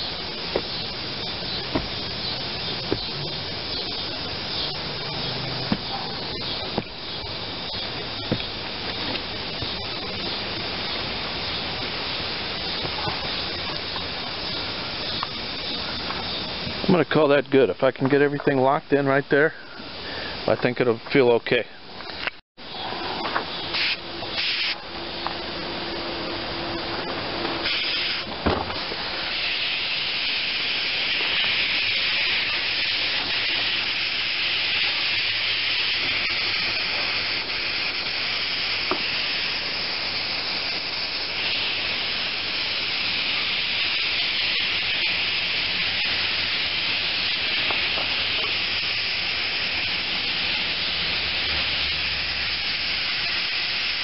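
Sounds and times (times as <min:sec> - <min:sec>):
aerosol can spraying hiss: 0:00.0 - 0:16.9, 0:23.7 - 0:24.8, 0:27.6 - 0:54.0.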